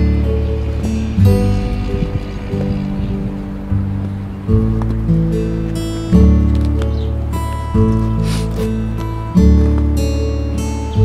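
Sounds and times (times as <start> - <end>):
acoustic guitar strumming: 0.0 - 11.0
steady bass: 0.0 - 11.0.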